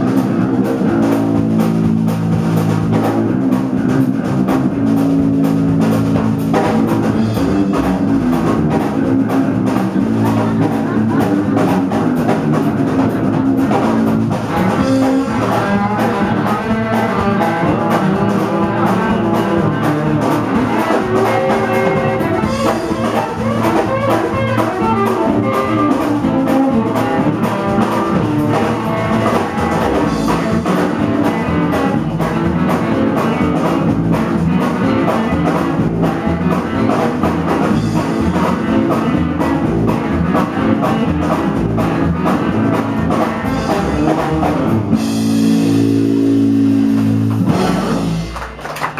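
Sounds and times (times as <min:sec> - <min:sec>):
drum kit groove: 0:00.0 - 0:48.9
upright double bass: 0:00.0 - 0:48.9.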